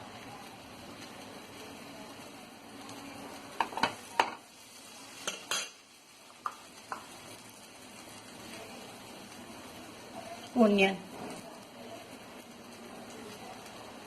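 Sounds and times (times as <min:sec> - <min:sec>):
batter sizzling on a hot pan: 0:00.0 - 0:14.0.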